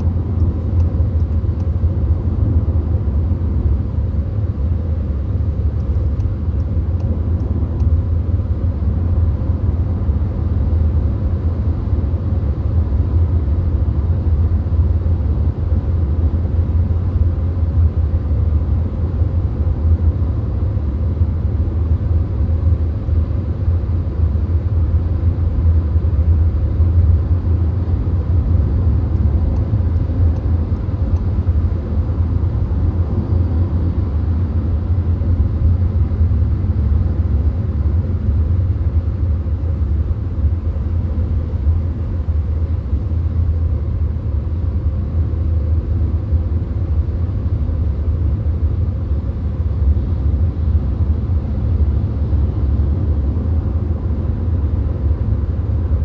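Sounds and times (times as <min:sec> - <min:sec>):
car interior road and engine rumble: 0:00.0 - 0:56.0.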